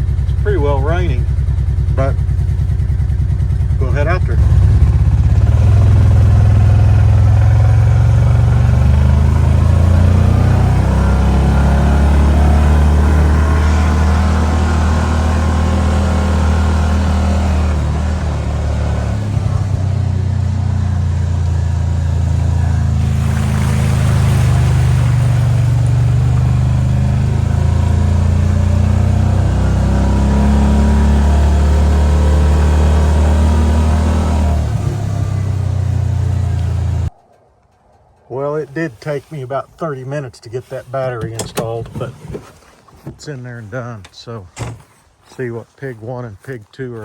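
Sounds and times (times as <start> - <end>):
vehicle engine running: 0.0 - 42.1.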